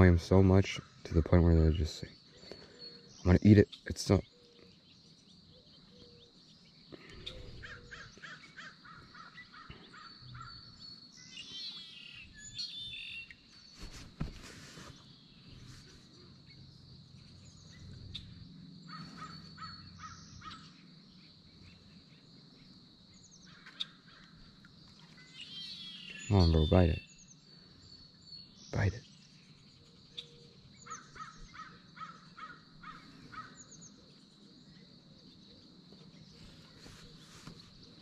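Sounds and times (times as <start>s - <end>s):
birds calling: 0.0s - 38.0s.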